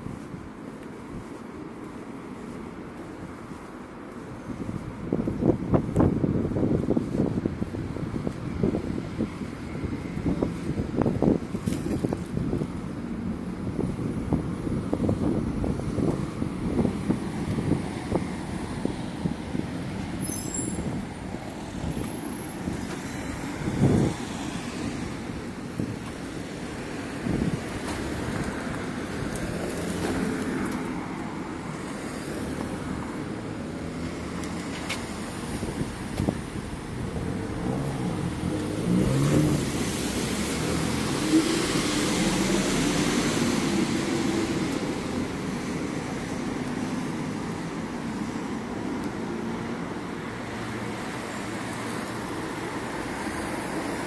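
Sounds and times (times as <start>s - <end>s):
traffic hum: 0.0s - 54.0s.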